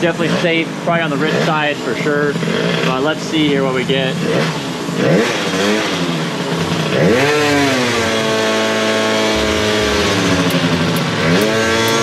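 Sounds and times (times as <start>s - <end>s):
scooter engine revving: 0.0s - 3.0s, 4.1s - 12.0s.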